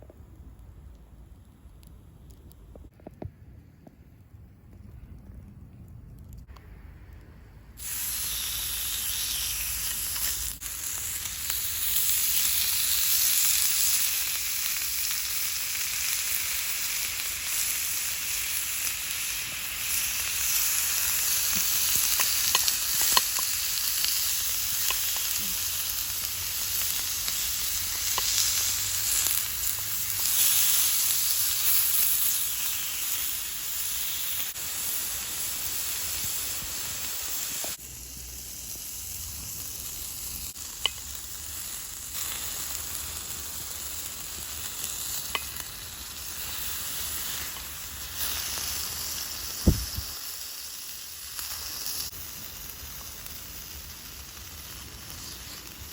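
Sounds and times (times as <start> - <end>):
meat sizzling in a skillet: 7.8 - 55.9.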